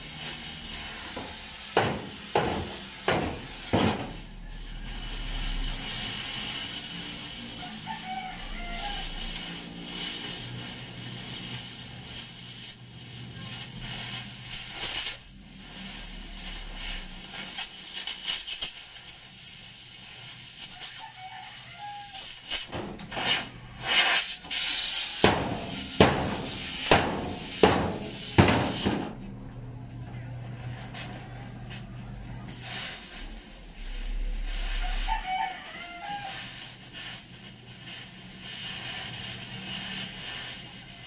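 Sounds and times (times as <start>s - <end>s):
cutting torch hissing: 0.0s - 29.2s, 32.4s - 41.0s.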